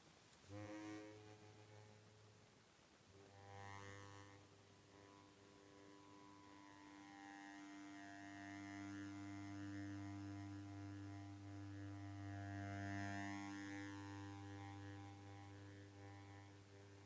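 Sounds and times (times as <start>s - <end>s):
bass harmonica low note: 3.3s - 17.0s.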